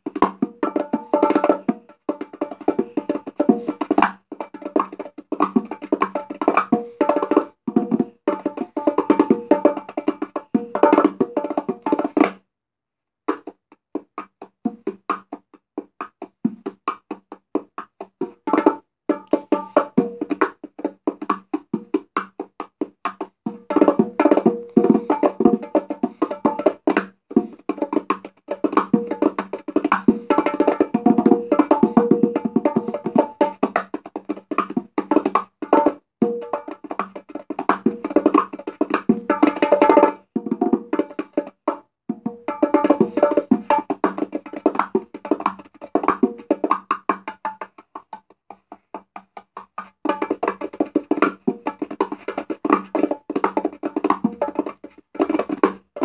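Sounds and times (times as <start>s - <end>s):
bongos played by hand: 0.0s - 12.5s, 13.2s - 56.0s.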